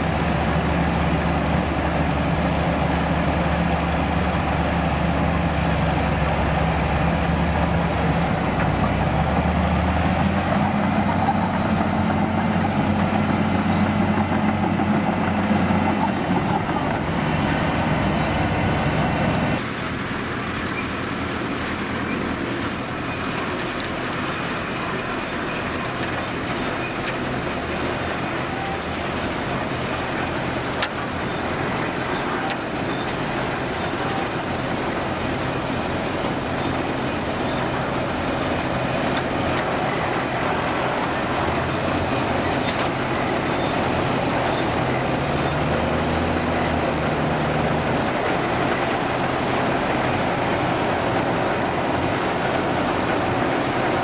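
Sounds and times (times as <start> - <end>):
diesel truck engines running: 0.0 - 54.0.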